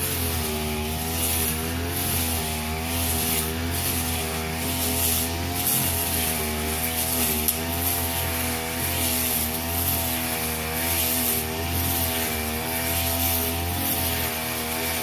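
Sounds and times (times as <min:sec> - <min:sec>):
brush cutter engine cutting grass: 0:00.0 - 0:15.0.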